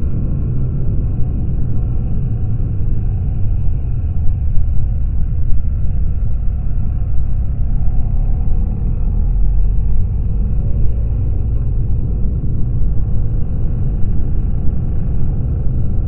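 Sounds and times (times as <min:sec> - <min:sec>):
motorcycle engine rumbling: 0:00.0 - 0:15.8
wind buffeting microphone: 0:00.0 - 0:16.0.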